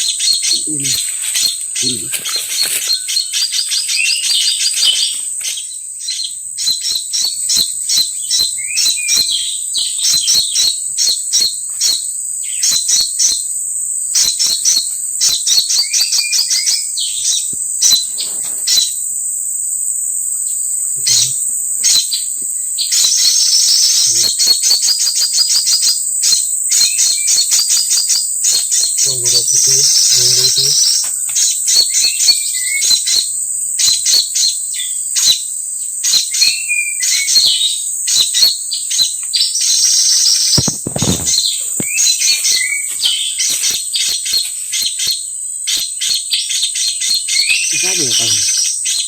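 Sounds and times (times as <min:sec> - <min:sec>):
small birds chirping: 0:00.0 - 0:19.1, 0:20.3 - 0:49.0
high-pitched insect drone: 0:00.0 - 0:49.0.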